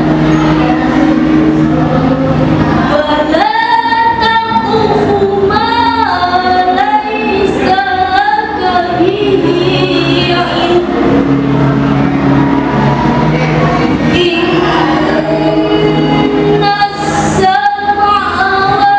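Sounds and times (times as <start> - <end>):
girl chanting through a microphone: 0.0 - 11.0, 14.1 - 18.9.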